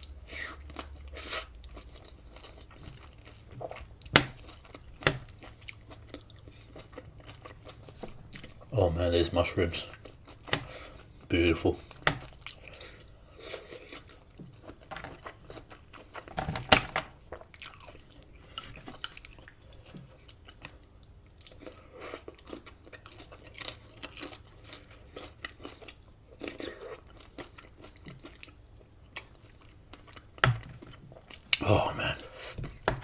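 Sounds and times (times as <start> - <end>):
chewing and biting: 0.0 - 8.7, 11.8 - 16.4, 17.1 - 31.6.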